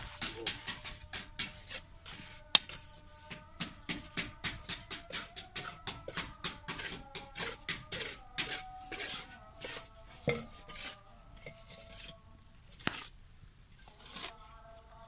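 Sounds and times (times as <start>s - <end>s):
trowel scraping wet cement: 0.0s - 13.1s, 13.8s - 14.5s.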